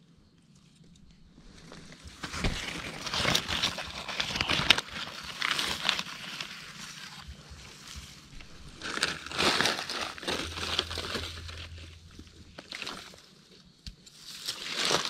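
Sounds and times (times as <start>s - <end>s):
dry leaves and twigs crackling: 0.7s - 15.0s.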